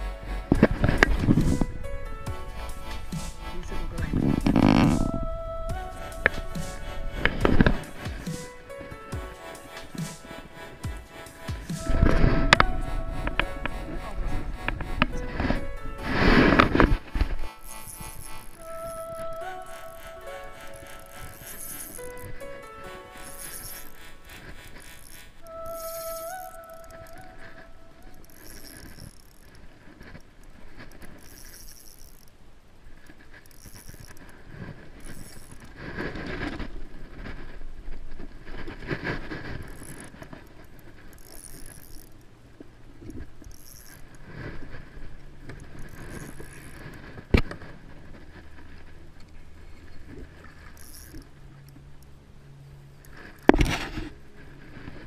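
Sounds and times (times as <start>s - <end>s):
fishing reel whirring and clicking: 0.0s - 36.7s, 39.4s - 47.6s, 48.6s - 52.2s, 52.8s - 54.1s.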